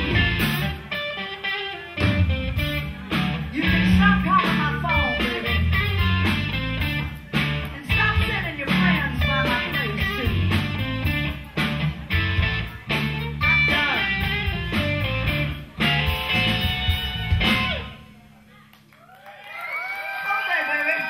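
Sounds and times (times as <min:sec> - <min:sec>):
electric guitar bending notes: 0:00.0 - 0:18.3
bass guitar: 0:00.0 - 0:18.4
drums: 0:00.0 - 0:18.4.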